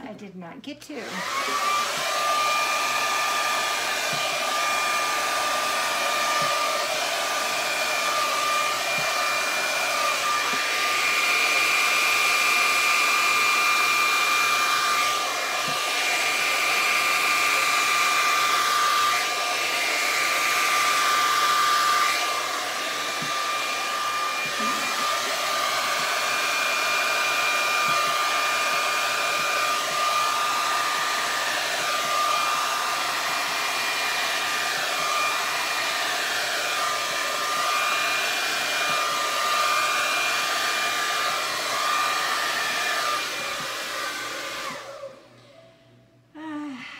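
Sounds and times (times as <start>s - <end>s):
hair dryer running: 0.9s - 45.5s.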